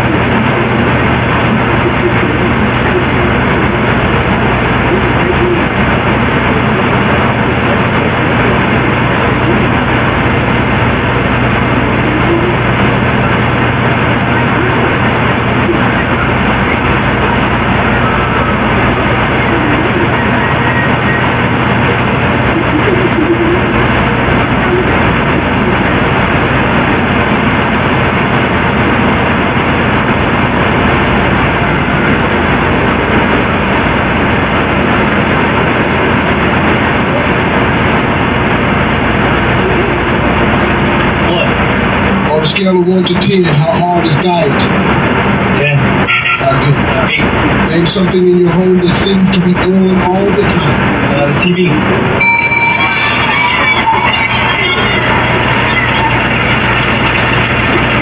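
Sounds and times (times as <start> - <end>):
low hum: 0.0 - 58.0
static-like hiss: 0.0 - 58.0.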